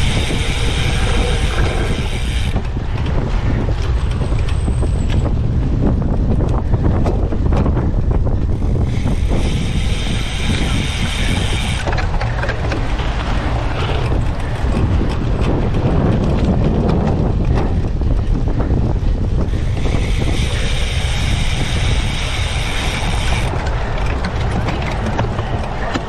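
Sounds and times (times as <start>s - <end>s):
bike rumbling over ground: 0.0s - 26.0s
wind buffeting microphone: 0.0s - 26.0s.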